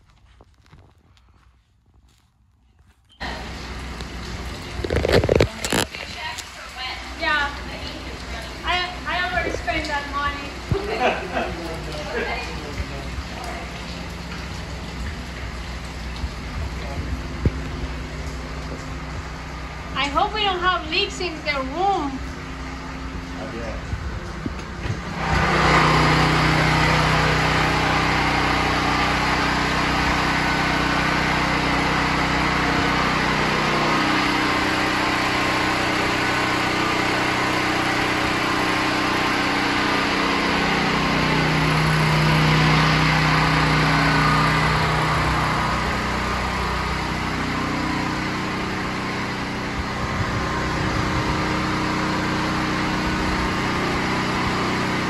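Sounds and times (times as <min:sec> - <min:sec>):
small engine running: 0:03.2 - 0:23.8, 0:24.8 - 0:55.0.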